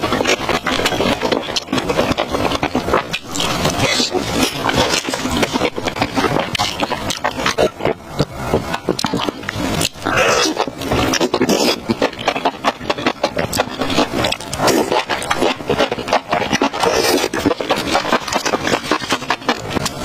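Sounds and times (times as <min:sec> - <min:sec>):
slurping and chewing mouth sounds: 0:00.0 - 0:20.0.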